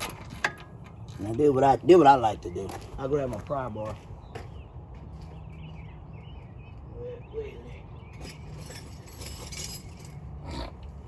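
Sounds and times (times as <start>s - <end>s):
birds chirping: 0.7s - 11.0s.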